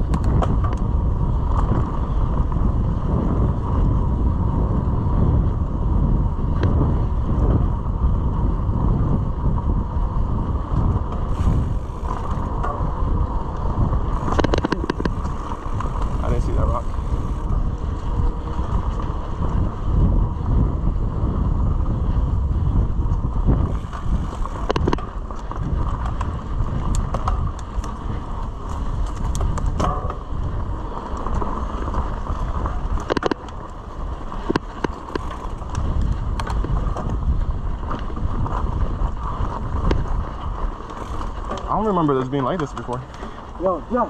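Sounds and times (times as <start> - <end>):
bike clicks and rattles: 0.0 - 44.0
wind buffeting microphone: 0.0 - 44.0.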